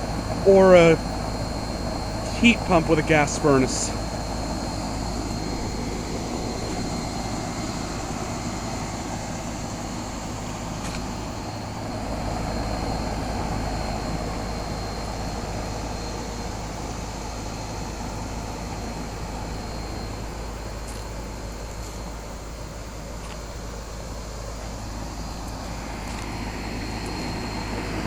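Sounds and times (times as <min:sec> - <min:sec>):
compressor low hum: 0:00.0 - 0:28.0
condenser fan rushing: 0:00.0 - 0:28.0.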